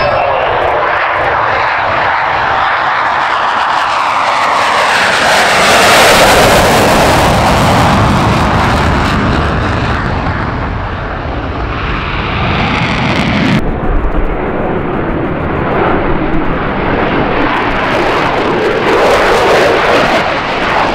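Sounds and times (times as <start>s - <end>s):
jet engine in afterburner: 0.0s - 20.9s.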